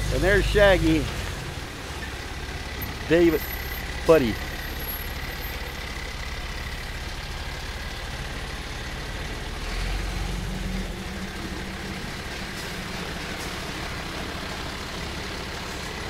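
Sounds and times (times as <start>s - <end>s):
garbage truck engines idling: 0.0s - 16.0s.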